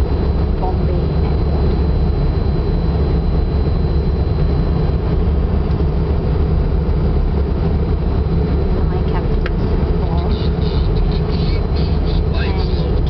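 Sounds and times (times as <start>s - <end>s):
airliner engines and airflow rumble: 0.0s - 13.0s.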